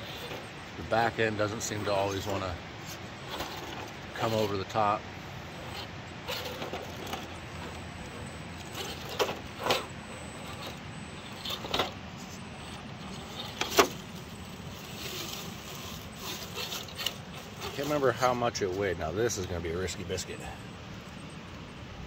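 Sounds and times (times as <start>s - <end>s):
toy truck drivetrain whir: 0.0s - 21.7s.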